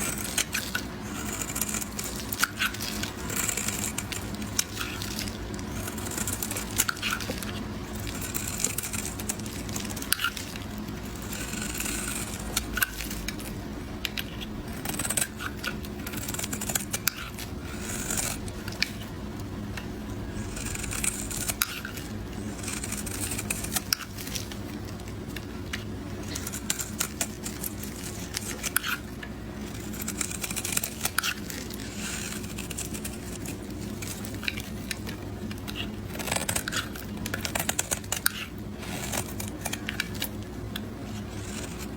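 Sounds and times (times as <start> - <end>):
knife cutting soap: 0.0 - 41.9.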